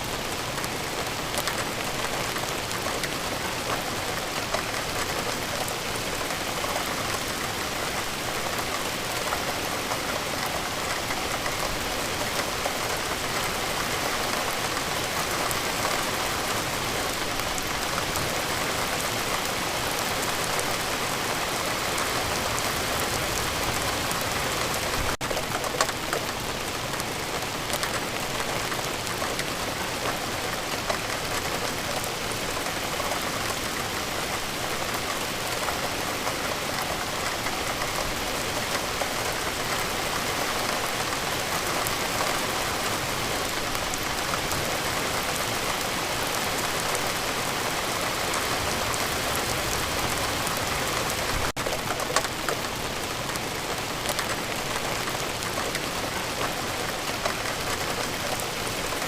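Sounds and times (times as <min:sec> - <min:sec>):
steady rain: 0:00.0 - 0:59.0
sharp raindrop ticks: 0:00.4 - 0:59.0.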